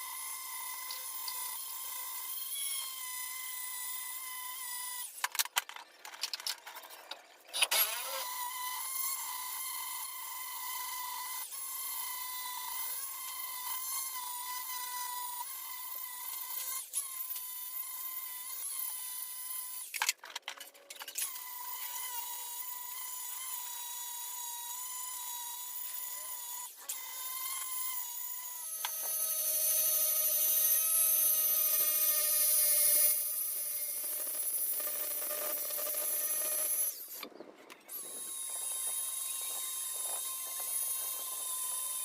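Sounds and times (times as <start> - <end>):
power tool motor whining: 0.0 - 42.0.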